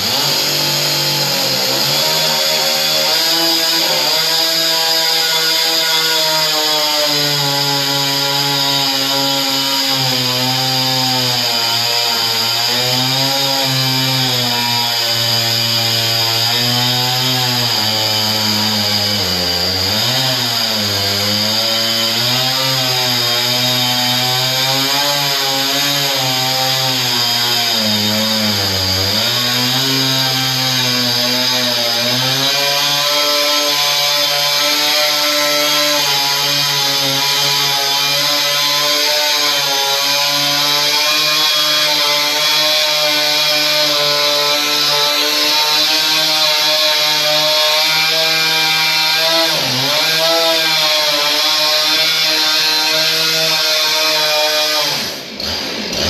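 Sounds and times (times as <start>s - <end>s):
chainsaw cutting: 0.0s - 56.0s.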